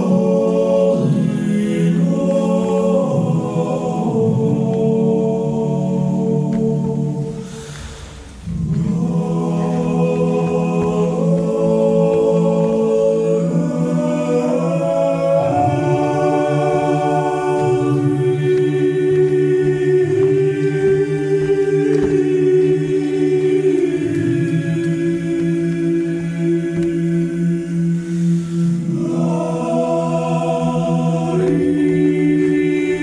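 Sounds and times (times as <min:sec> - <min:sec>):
low vocal drone: 0:00.0 - 0:33.0
vocal ensemble singing chords: 0:00.0 - 0:33.0.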